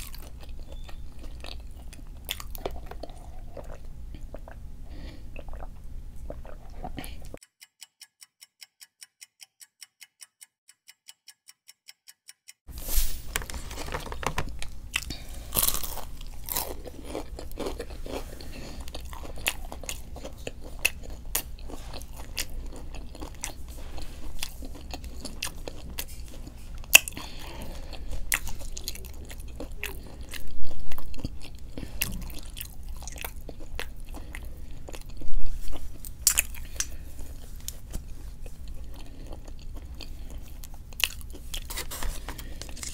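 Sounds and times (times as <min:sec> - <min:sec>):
chewing and crunching food: 0:00.0 - 0:07.4, 0:13.4 - 0:42.9.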